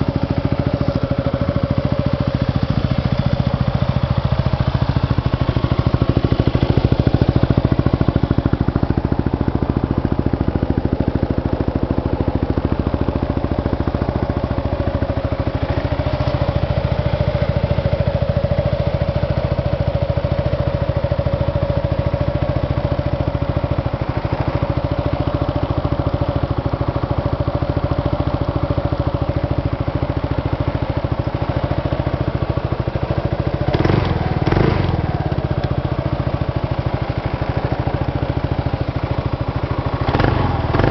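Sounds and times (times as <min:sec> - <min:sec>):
scooter engine idling: 0:00.0 - 0:40.9.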